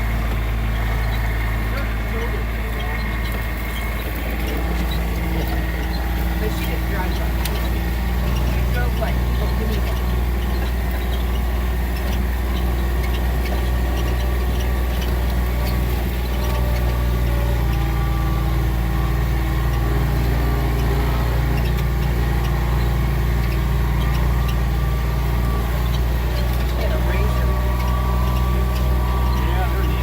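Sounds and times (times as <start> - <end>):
light rattles: 0.0 - 30.0
vehicle engine rumbling: 0.0 - 30.0.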